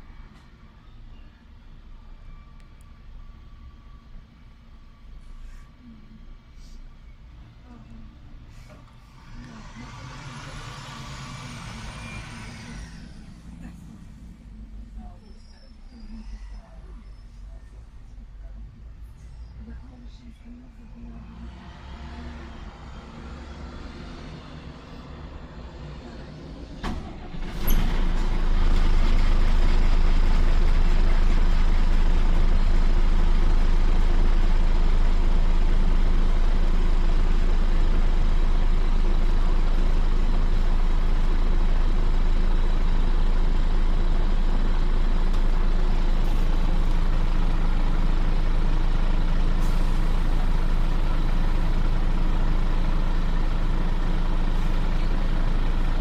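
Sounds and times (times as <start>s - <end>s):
bus diesel engine starting: 0.0s - 56.0s
bus engine idling: 0.0s - 56.0s.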